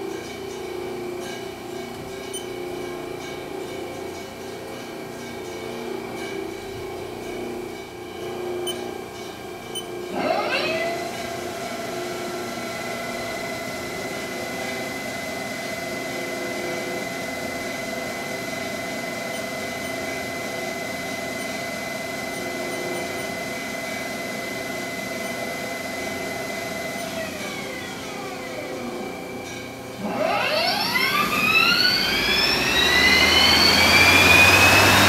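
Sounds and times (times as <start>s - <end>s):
lathe spindle whine: 0.0s - 35.0s.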